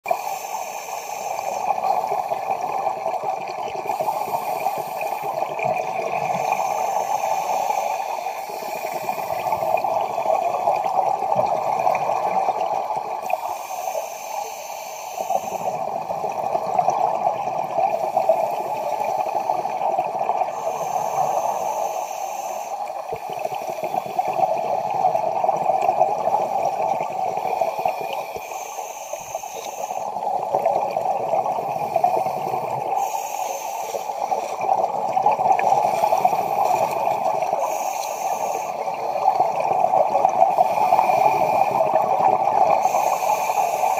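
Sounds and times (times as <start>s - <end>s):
exhaled bubbles gurgling: 0.0s - 43.9s
regulator inhalation hiss: 0.1s - 2.8s, 3.8s - 10.8s, 12.2s - 16.4s, 17.8s - 43.9s
steady underwater hiss: 0.1s - 43.9s.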